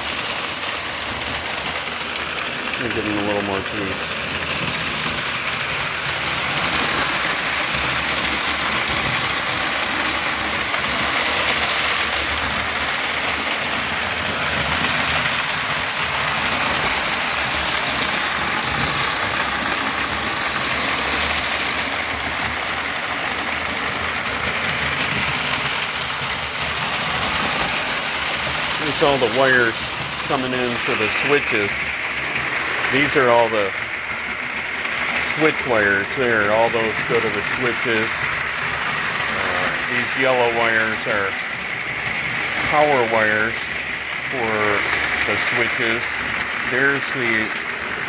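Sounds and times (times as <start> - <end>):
model train motor whirring: 0.0 - 48.0.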